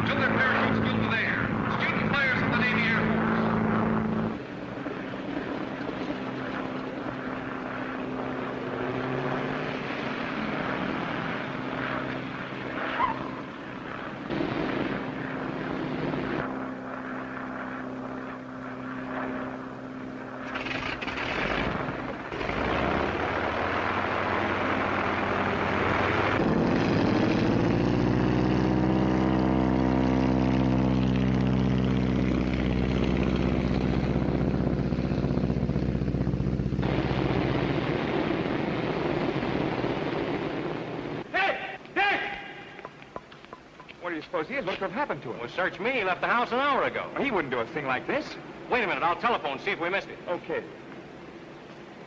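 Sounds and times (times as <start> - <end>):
propeller plane engine running: 0.0 - 52.0.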